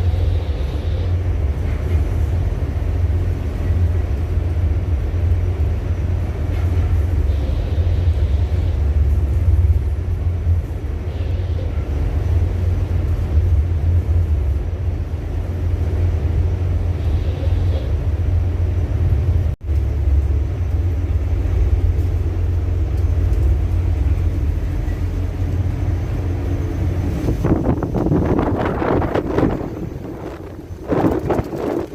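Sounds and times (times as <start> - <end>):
ship engine deep rumble: 0.0 - 31.9.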